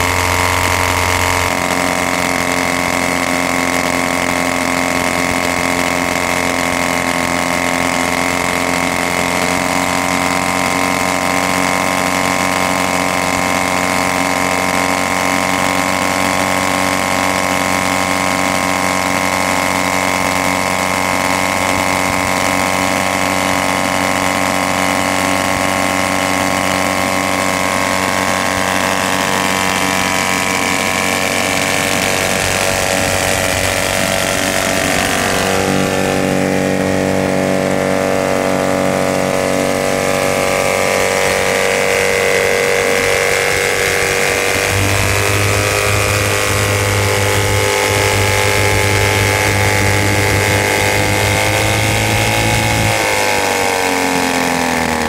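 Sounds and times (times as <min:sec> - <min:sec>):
two-stroke engine running: 0:00.0 - 0:55.0.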